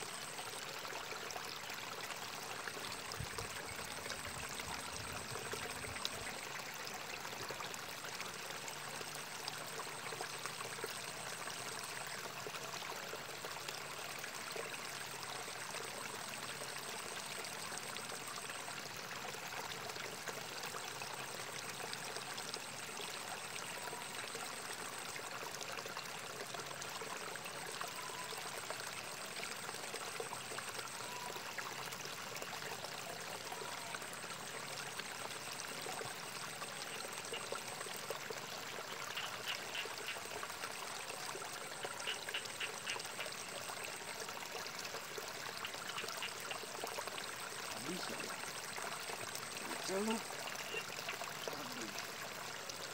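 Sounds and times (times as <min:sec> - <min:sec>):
water trickling in ditch: 0:00.0 - 0:52.9.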